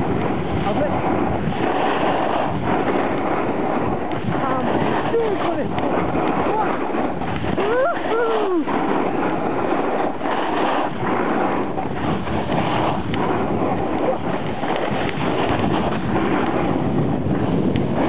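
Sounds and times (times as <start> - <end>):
skis scraping over snow: 0.0 - 18.0
wind on microphone: 0.0 - 18.0.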